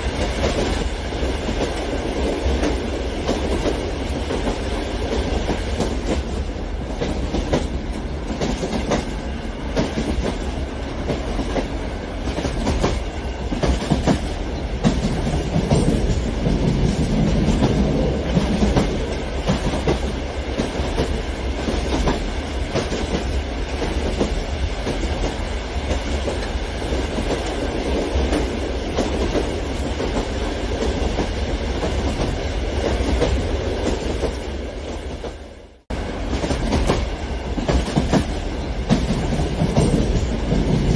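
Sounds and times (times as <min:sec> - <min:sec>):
low train rumble: 0:00.0 - 0:40.9.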